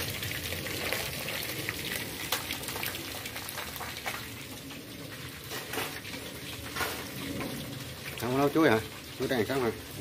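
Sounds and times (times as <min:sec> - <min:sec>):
food frying in hot oil: 0:00.0 - 0:10.0.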